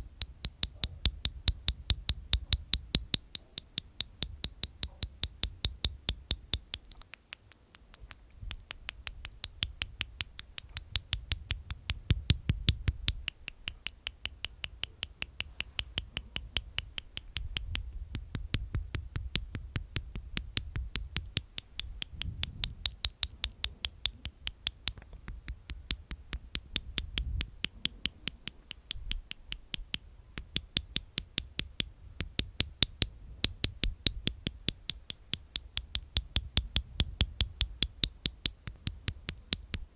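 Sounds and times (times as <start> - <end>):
wet mouth clicking: 0.0 - 39.9.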